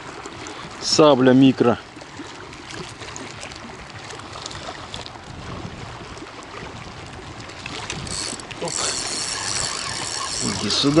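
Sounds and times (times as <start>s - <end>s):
small waves lapping on concrete: 0.0s - 11.0s.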